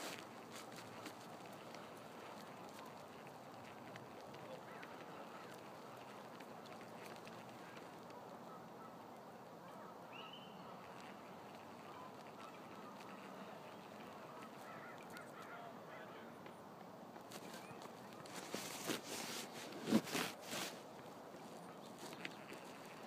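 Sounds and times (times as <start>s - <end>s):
distant bird calls: 0.0s - 23.0s
faint outdoor background noise: 0.0s - 23.0s.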